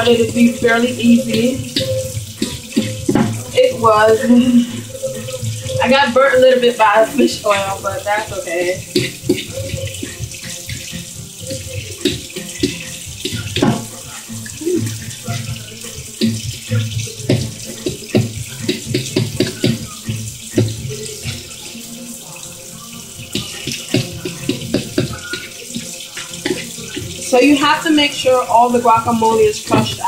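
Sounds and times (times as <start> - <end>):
avocados squelching in bowl: 0.0 - 30.0.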